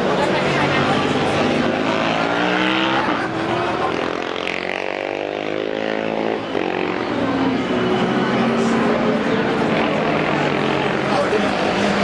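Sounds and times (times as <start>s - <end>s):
another racing engine: 0.0s - 12.0s
racing engine passing by: 0.0s - 12.0s.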